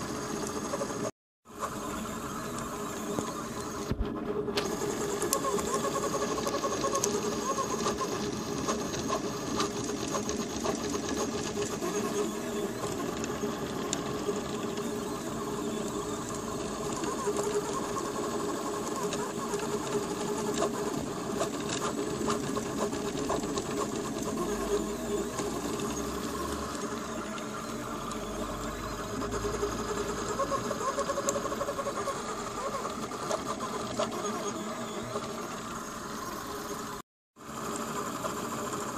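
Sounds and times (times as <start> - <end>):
stepper motors buzzing whine: 0.0 - 38.9.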